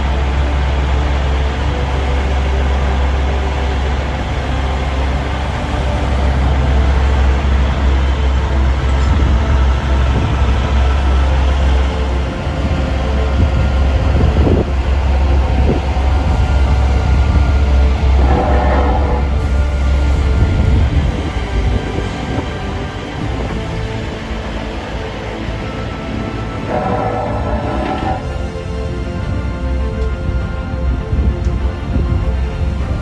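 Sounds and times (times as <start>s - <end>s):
heavy machinery engine rumble: 0.0s - 33.0s.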